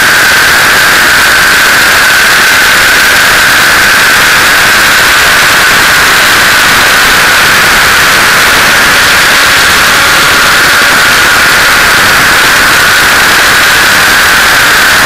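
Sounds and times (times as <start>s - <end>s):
high whine: 0.0s - 15.0s
model helicopter rushing noise: 0.0s - 15.0s.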